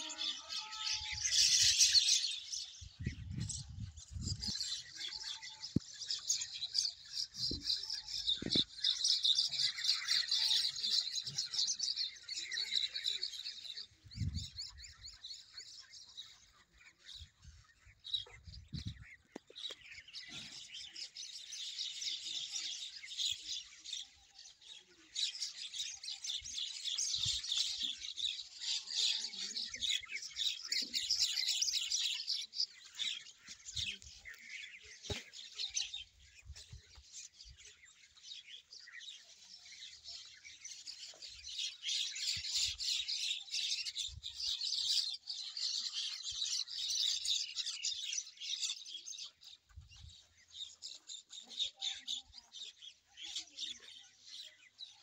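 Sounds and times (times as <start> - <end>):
flock of small birds chirping: 0.0 - 55.0.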